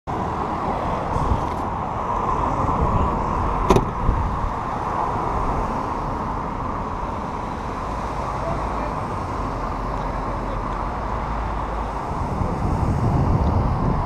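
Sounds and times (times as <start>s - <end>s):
motor vehicle rumble: 0.1s - 14.0s.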